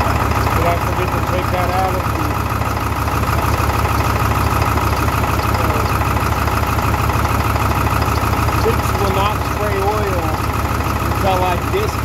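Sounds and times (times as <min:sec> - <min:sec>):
diesel engine idling and misfiring: 0:00.0 - 0:12.0.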